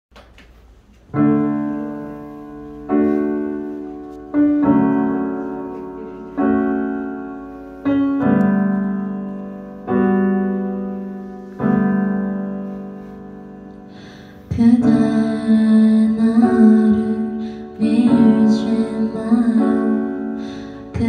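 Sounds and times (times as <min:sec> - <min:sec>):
piano sustained chords: 0:01.1 - 0:21.0.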